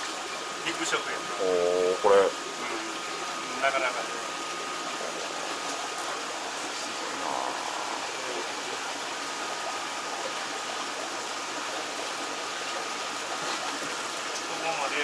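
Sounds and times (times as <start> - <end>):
water rushing and splashing: 0.0 - 1.4, 2.4 - 15.0.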